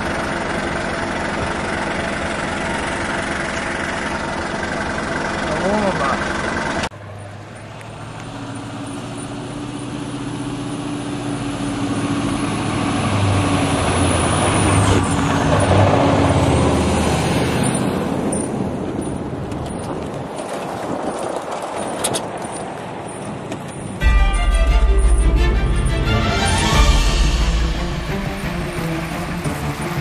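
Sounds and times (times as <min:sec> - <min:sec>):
tyre noise on snowy road: 0:00.0 - 0:25.6, 0:26.2 - 0:30.0
diesel truck passing: 0:00.0 - 0:30.0.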